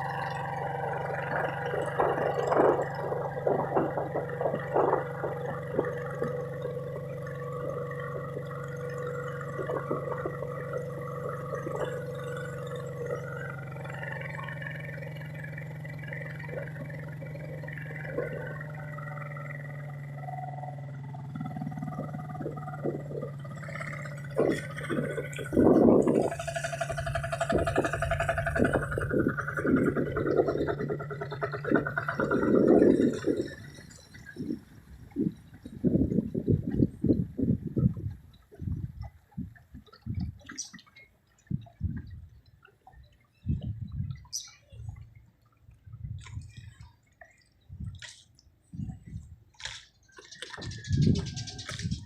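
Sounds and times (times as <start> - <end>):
low motor hum: 0.0 - 52.0
water splashing against a boat: 0.0 - 52.0.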